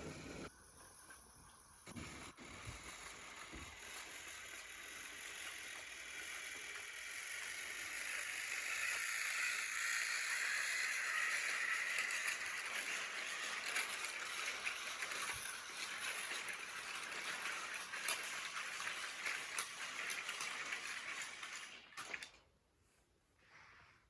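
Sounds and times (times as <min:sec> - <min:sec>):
toy train motor whirr: 0:00.0 - 0:22.4
wheels clicking on plastic track: 0:00.0 - 0:22.5.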